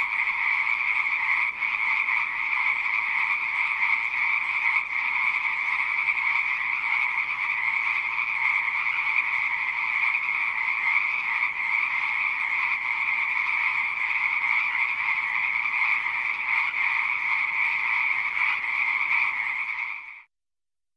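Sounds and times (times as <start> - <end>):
frogs croaking chorus: 0.0 - 20.3.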